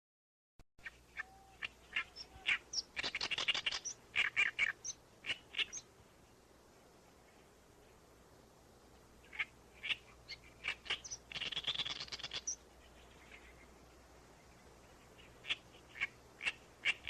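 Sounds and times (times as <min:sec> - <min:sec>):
birds chirping: 0:00.8 - 0:17.0.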